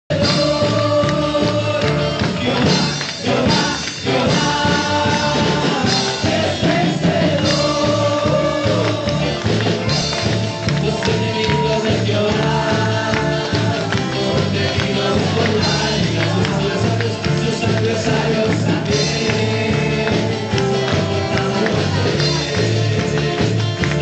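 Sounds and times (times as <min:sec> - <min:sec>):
electric guitar: 0:00.1 - 0:24.0
keyboard: 0:00.1 - 0:24.0
man singing into microphone: 0:00.1 - 0:24.0
steady beat: 0:00.1 - 0:24.0.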